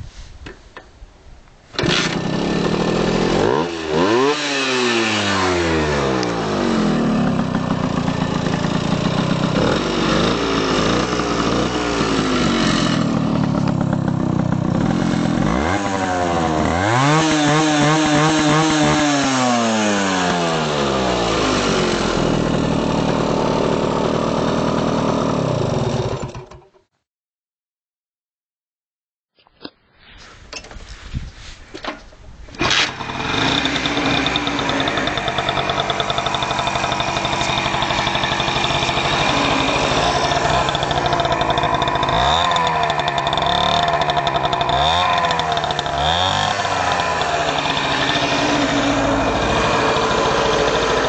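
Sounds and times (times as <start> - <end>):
moped engine revving: 1.8 - 26.6, 32.6 - 51.0.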